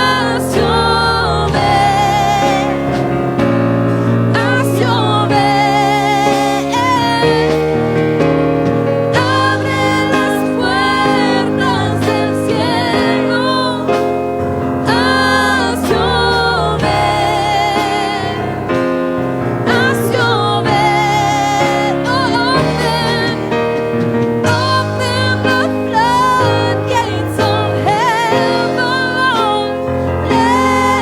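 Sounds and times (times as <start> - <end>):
person singing with vibrato: 0.0 - 31.0
sustained keyboard chords: 0.0 - 31.0.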